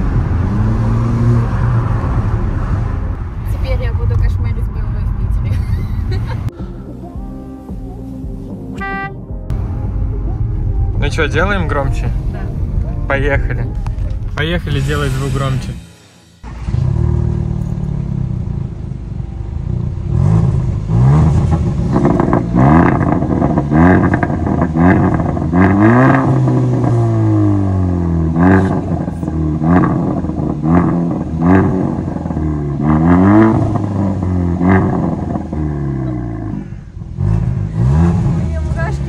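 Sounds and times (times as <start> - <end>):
car engine revving: 0.0 - 6.5, 9.5 - 39.0.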